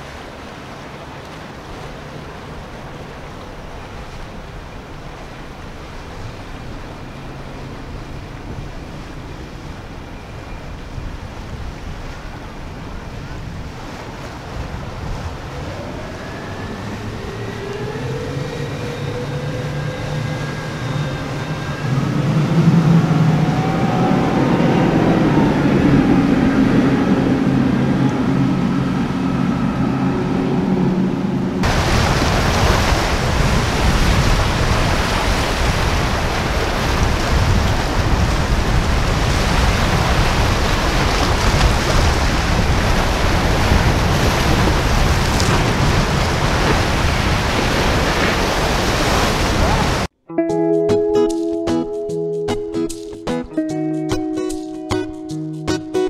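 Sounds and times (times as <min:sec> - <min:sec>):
outboard motors running: 0:00.0 - 0:50.1
wind on microphone: 0:00.0 - 0:50.1
surf: 0:00.0 - 0:56.0.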